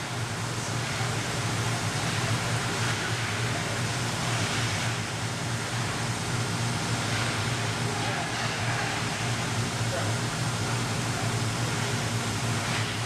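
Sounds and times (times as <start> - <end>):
constant low hum: 0.0 - 13.0
continuous hiss: 0.0 - 13.0.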